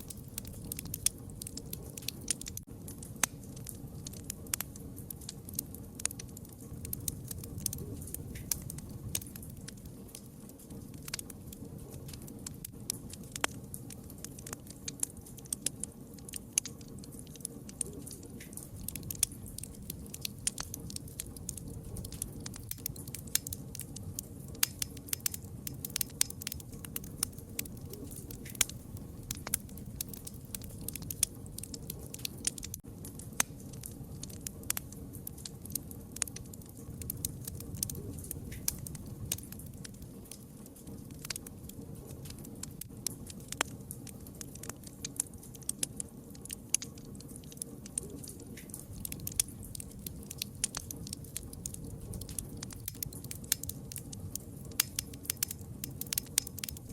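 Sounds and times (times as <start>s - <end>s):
low rumble of flames: 0.0s - 56.9s
wood fire crackling: 0.0s - 56.9s.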